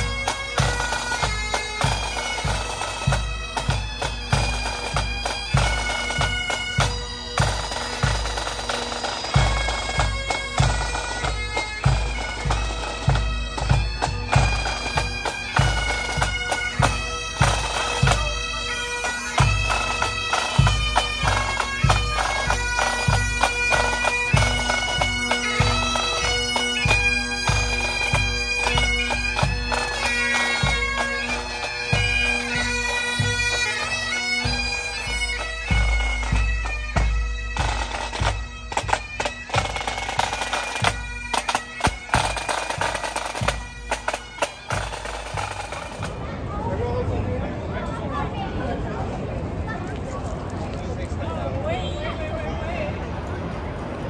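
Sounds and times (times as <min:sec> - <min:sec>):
bagpipes playing: 0:00.0 - 0:46.2.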